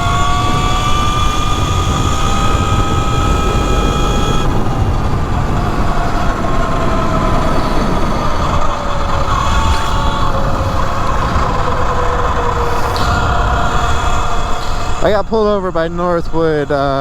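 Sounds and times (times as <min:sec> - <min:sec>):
electric motor whining: 0:00.0 - 0:17.0
wind rumble on microphone: 0:00.0 - 0:17.0.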